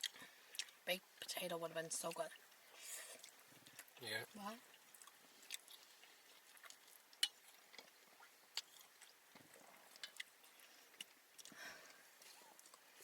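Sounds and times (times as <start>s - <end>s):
chewing and lip-smacking: 0.0s - 0.8s, 2.1s - 13.0s.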